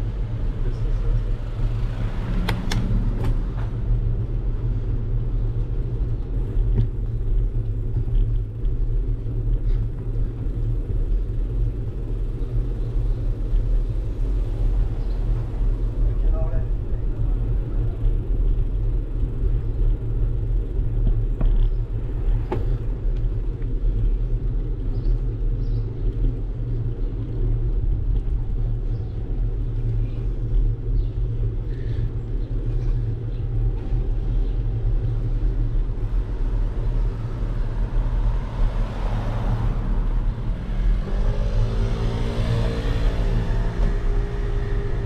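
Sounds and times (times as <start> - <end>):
bicycle tyres rolling on pavement: 0.0 - 45.0.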